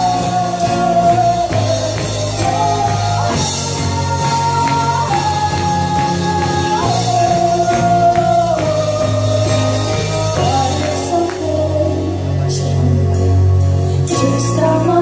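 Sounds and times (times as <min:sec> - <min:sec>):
woman singing: 0:00.0 - 0:13.4, 0:14.0 - 0:15.0
worship band playing: 0:00.0 - 0:15.0.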